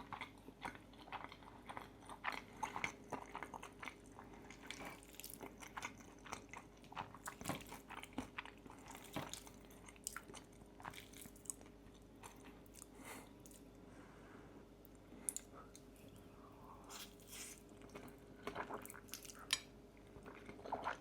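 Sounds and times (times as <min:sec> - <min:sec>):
chewing and crunching: 0:00.0 - 0:13.7, 0:16.9 - 0:21.0.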